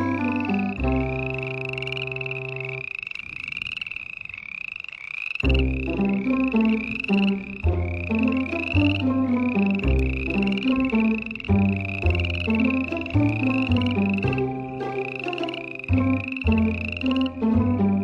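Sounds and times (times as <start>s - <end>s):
background music with held notes: 0.0s - 2.8s, 5.4s - 18.0s
frog calling rapidly: 0.0s - 18.0s.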